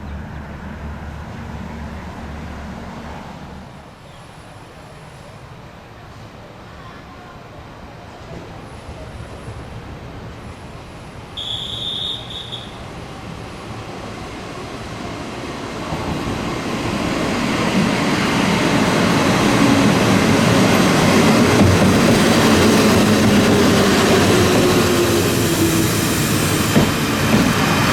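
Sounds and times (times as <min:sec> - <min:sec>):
train approaching rumble: 0:00.0 - 0:27.9.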